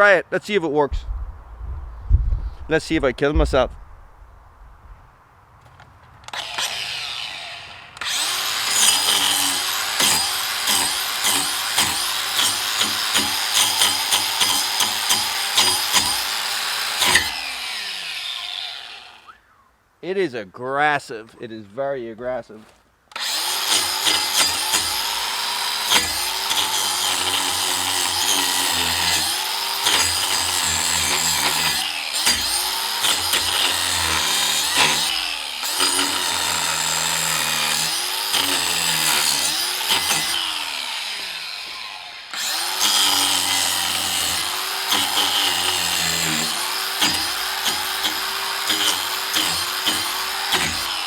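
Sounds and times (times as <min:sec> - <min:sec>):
angle grinder grinding wood: 0:06.3 - 0:19.4, 0:22.6 - 0:51.0.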